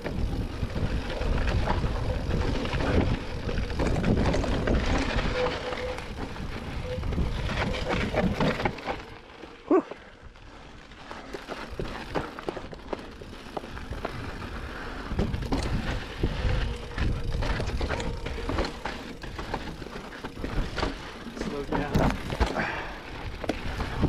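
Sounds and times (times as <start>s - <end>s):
bike rattling and clicking: 0.0s - 24.0s
bike tyres crunching on rocks: 0.0s - 24.0s.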